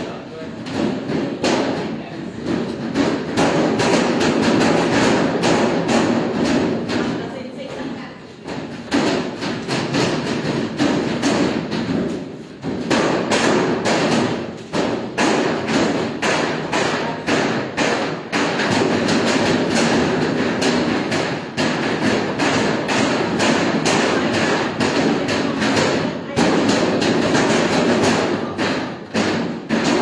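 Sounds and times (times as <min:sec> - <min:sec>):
busy room background: 0:00.0 - 0:30.0.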